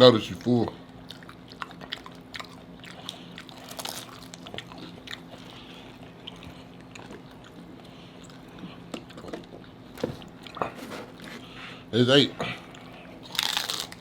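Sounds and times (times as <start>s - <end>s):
steady low hum: 0.0s - 14.0s
wet chewing: 0.3s - 11.6s
crunchy tacos being bitten: 1.0s - 11.4s, 12.7s - 14.0s.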